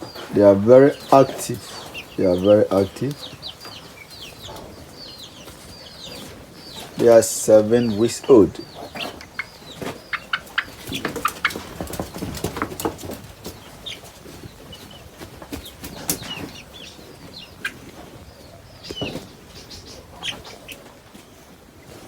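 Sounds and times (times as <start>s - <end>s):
chickens calling and chirping: 0.0s - 22.0s.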